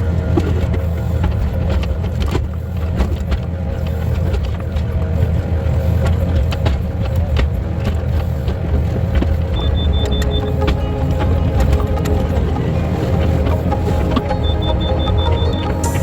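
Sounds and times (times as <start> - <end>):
machine droning: 0.0 - 16.0.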